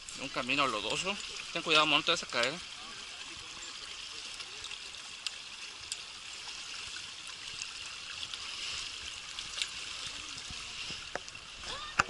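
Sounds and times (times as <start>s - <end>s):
small stream rushing: 0.0s - 12.0s.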